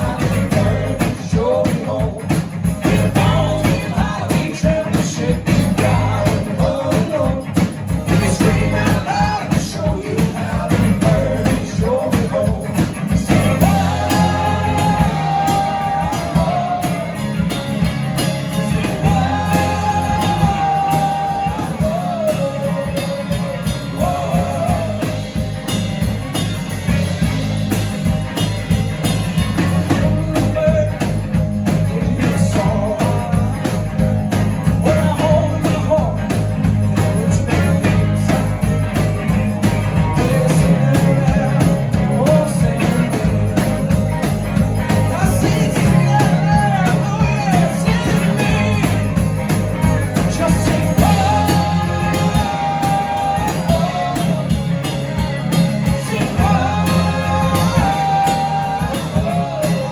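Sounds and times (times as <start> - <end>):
man singing: 0.0 - 25.8, 29.6 - 44.1, 44.8 - 59.9
instrumental backing: 0.0 - 59.9.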